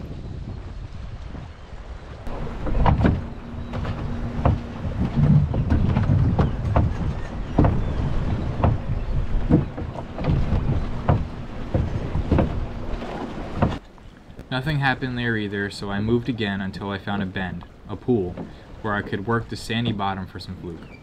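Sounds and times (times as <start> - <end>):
wind buffeting microphone: 0.0 - 20.2
waves slapping wooden dock: 0.0 - 21.0.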